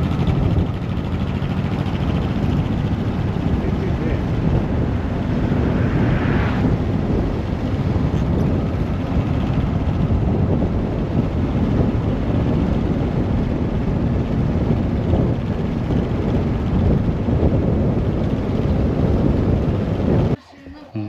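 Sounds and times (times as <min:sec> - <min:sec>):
motorcycle engine running: 0:00.0 - 0:20.4
wind noise on microphone: 0:00.0 - 0:21.0.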